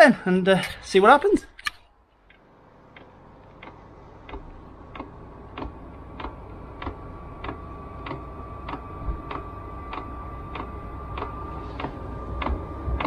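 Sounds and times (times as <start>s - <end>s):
steady whine: 0.0s - 13.0s
blower fan spinning up: 2.2s - 13.0s.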